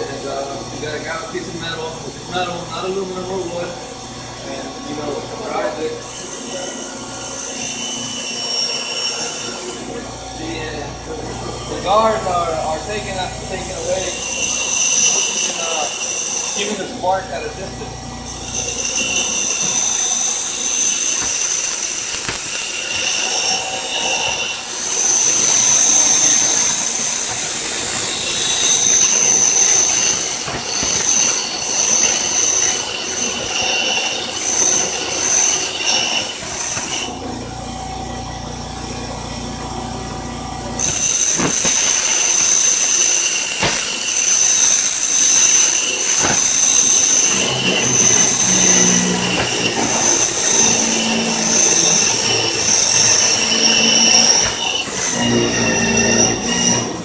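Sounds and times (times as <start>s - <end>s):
grinder wheel screeching on metal: 0.0s - 57.0s.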